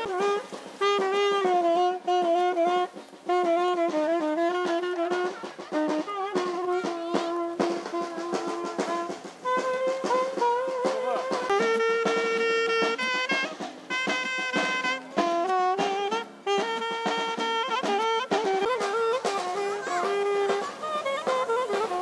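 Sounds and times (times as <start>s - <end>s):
drum beats: 0.0s - 22.0s
saxophone melody: 0.0s - 22.0s.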